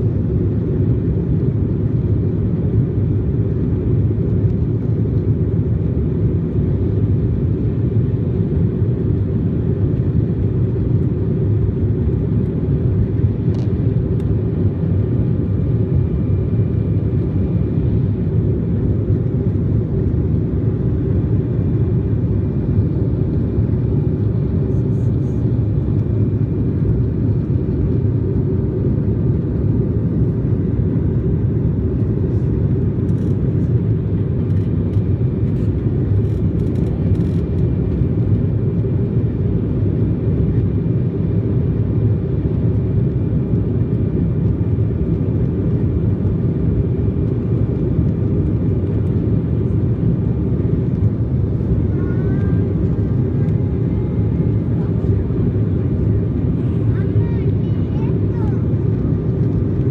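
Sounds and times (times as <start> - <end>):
jet engine and airflow roar: 0.0 - 59.9.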